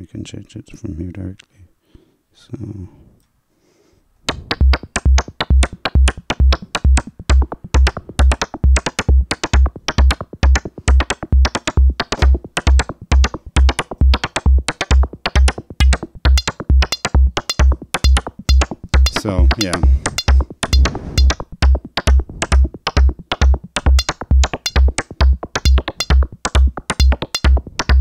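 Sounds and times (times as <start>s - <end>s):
synthesized bongo pattern: 4.3s - 28.0s
synthesized kick drum: 4.3s - 28.0s.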